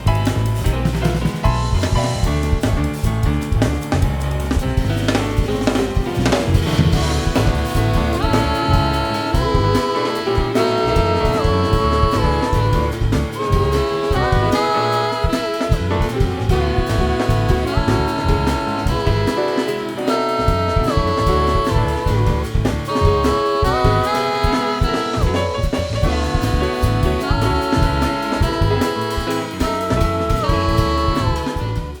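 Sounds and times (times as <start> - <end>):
double bass: 0.0 - 32.0
drum kit on snare and rims: 0.0 - 32.0
jazz group playing: 0.0 - 32.0.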